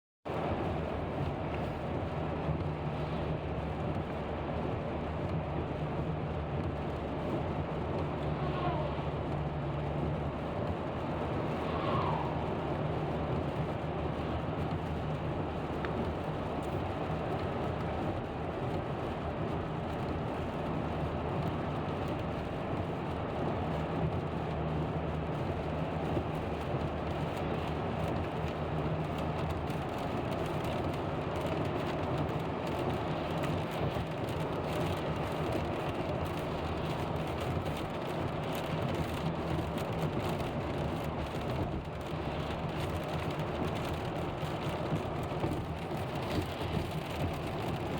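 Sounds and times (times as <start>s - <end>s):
tyres on wet road: 0.3s - 47.9s
rain striking car: 0.8s - 47.9s.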